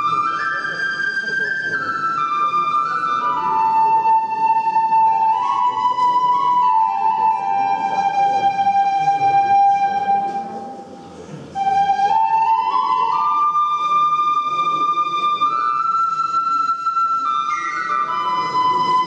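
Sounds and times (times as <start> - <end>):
flute playing slow melody: 0.0 - 19.0.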